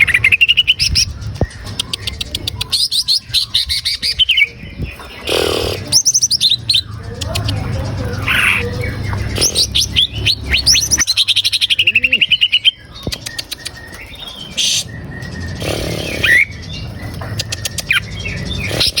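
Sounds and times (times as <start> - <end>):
bird singing whistles and trills: 0.0 - 19.0.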